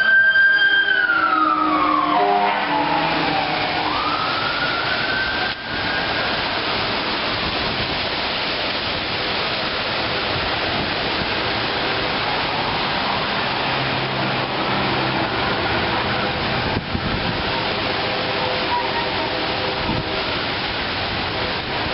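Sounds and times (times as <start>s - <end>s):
distant siren wailing: 0.0s - 8.2s, 12.0s - 21.4s
heavy rain hissing: 0.8s - 21.9s.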